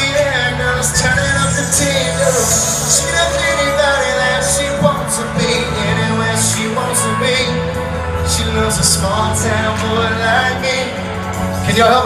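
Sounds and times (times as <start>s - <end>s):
live country band playing: 0.0s - 12.0s.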